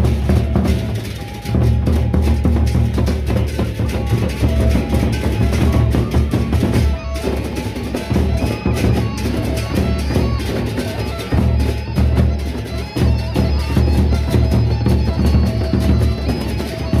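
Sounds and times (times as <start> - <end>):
barrel drums beaten: 0.0 - 17.0
clashing hand cymbals: 0.0 - 17.0
ringing held tones: 0.0 - 17.0.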